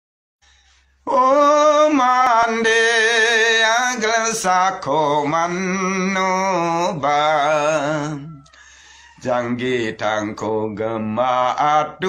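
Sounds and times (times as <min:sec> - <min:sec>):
man singing slow melody: 0:01.0 - 0:12.0.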